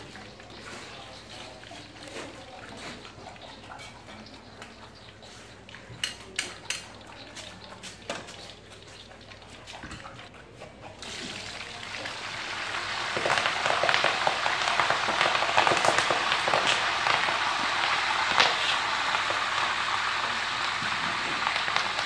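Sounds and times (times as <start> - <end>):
leaves sizzling in hot oil: 0.0 - 9.8, 11.0 - 22.0.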